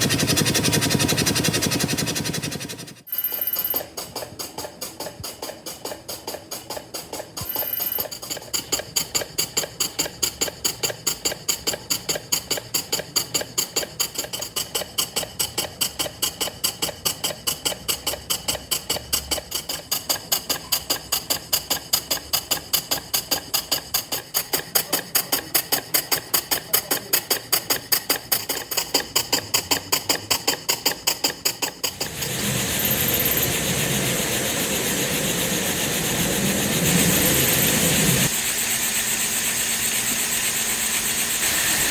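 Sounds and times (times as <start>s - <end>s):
model engine clicking metallically: 0.0s - 38.3s.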